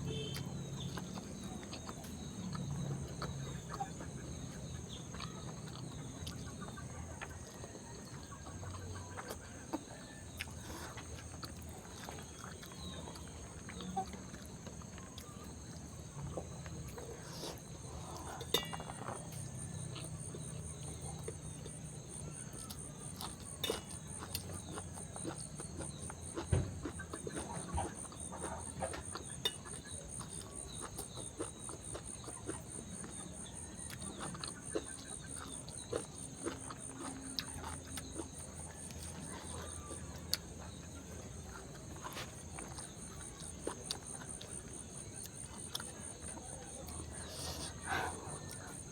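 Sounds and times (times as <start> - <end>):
chewing and lip-smacking: 0.0 - 48.9
insects chirring: 0.0 - 48.9.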